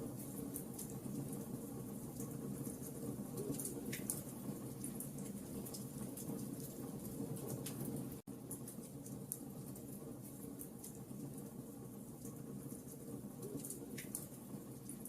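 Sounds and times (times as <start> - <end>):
wood fire crackling: 0.0 - 15.0
fire snaps and pops: 2.1 - 11.4, 12.2 - 15.0.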